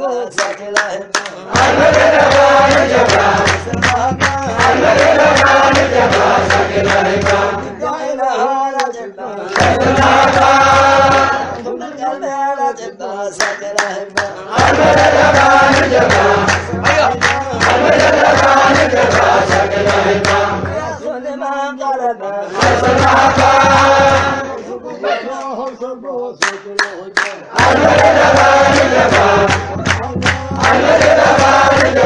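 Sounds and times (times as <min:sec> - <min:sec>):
male voices chanting together: 0:00.0 - 0:32.0.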